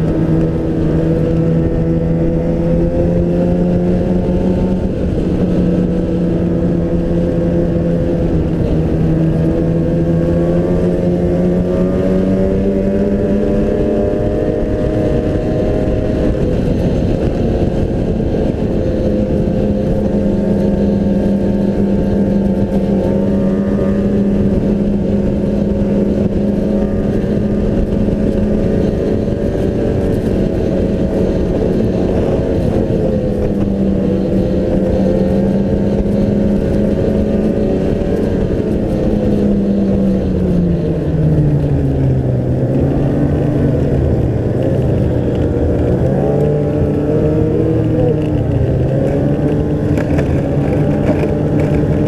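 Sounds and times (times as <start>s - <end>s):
snowmobile engine running: 0.0s - 52.0s.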